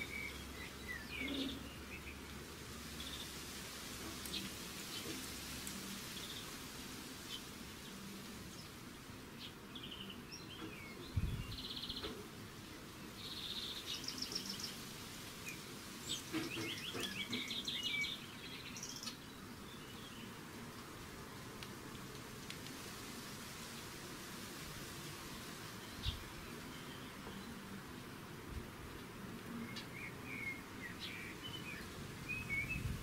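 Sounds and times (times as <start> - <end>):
small songbirds chirping: 0.0 - 20.8, 25.1 - 28.4, 29.0 - 33.0
faint outdoor hiss: 0.0 - 33.0.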